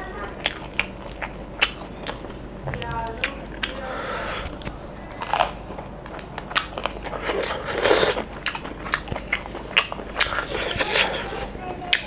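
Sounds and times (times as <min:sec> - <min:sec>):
man chewing: 0:00.4 - 0:12.0.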